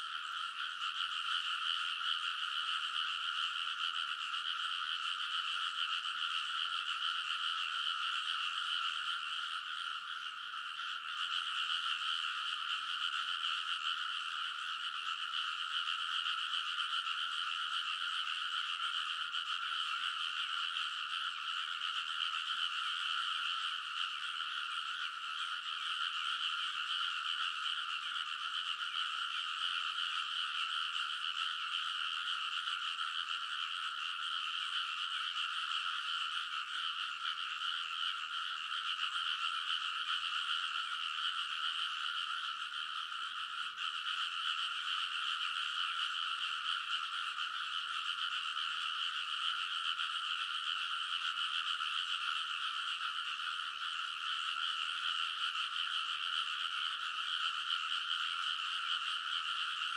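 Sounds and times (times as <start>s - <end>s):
chorus of frogs croaking: 0.0s - 59.9s.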